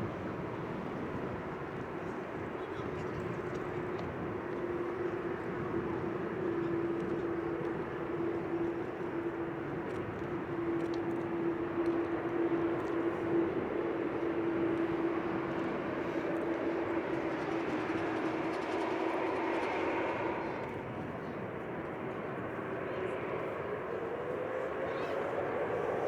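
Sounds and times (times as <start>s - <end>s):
jet engines running: 3.5s - 26.0s.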